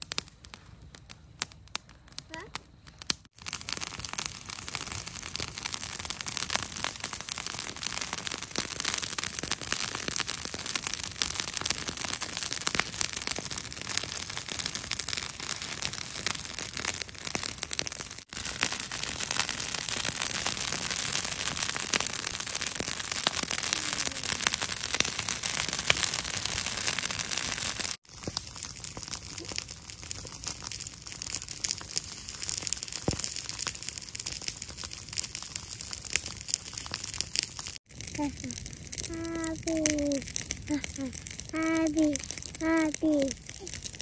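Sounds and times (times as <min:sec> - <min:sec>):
brush fire crackling: 0:00.0 - 0:44.0.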